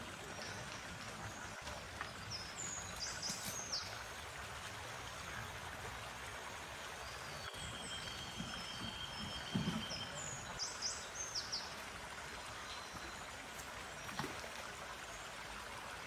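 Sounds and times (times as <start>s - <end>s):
forest stream running: 0.0s - 16.0s.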